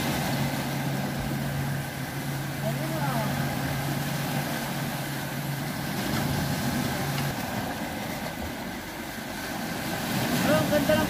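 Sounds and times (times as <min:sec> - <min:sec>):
continuous rushing noise: 0:00.0 - 0:11.0
low engine hum: 0:00.0 - 0:11.0.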